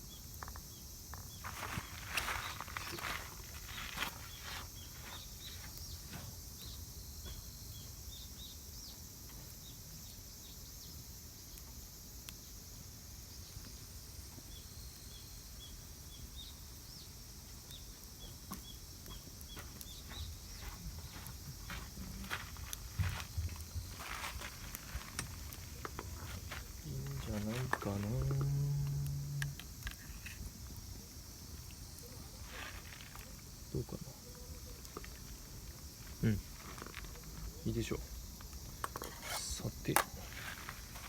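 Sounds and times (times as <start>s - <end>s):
outdoor ambience hiss: 0.0s - 41.0s.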